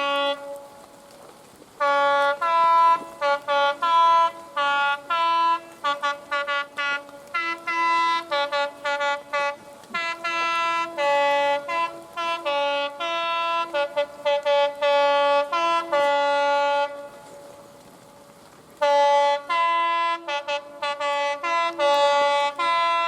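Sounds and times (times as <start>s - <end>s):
train two-tone horn blasts: 0.0s - 0.8s, 1.8s - 17.5s, 18.8s - 23.0s.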